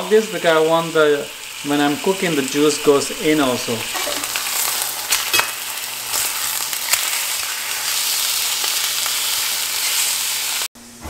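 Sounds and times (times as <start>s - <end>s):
meat sizzling in a skillet: 0.0s - 10.7s.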